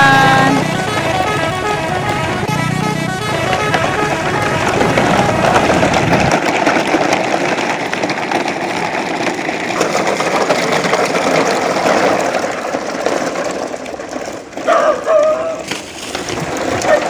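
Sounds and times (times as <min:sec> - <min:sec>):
toy truck wheels on stony ground: 0:00.0 - 0:17.0.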